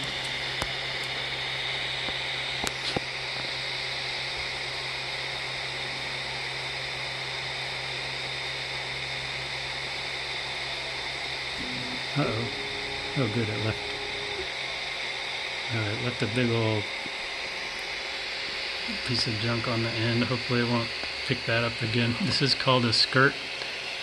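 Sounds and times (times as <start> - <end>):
low hum: 0.0 - 22.0
printer fans whirring: 0.0 - 24.0.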